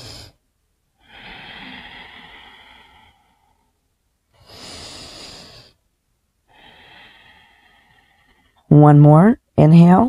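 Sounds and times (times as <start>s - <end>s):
woman breathing deeply: 0.0s - 8.7s.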